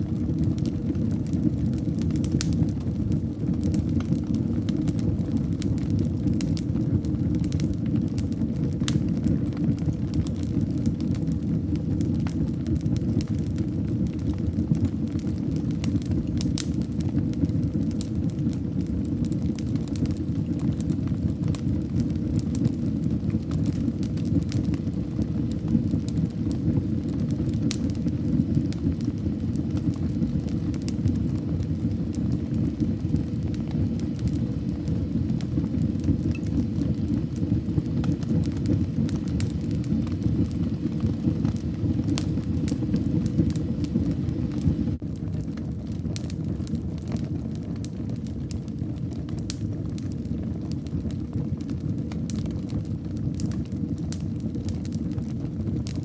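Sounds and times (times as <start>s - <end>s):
fire crackling and popping: 0.0s - 56.0s
fire rumbling in fireplace: 0.0s - 56.0s.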